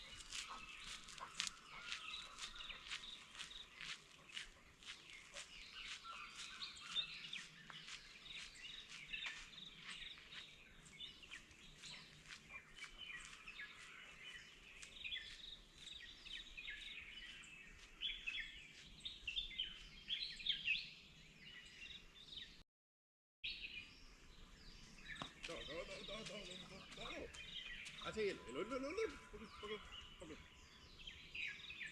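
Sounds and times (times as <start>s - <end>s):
small birds chirping and trilling: 0.0s - 22.6s, 23.4s - 31.9s.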